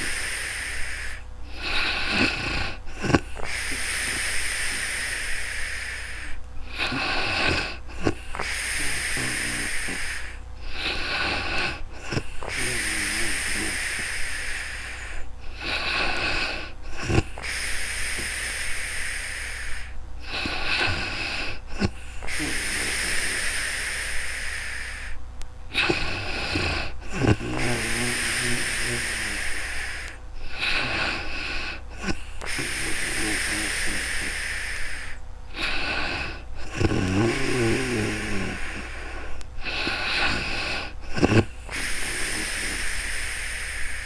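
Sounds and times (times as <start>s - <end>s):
woman snoring: 0.0s - 44.0s.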